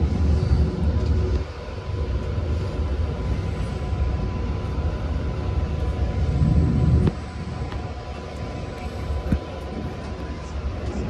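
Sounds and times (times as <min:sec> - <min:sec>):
faint high whine: 0:00.0 - 0:11.0
train wheels rumbling on rails: 0:00.0 - 0:11.0.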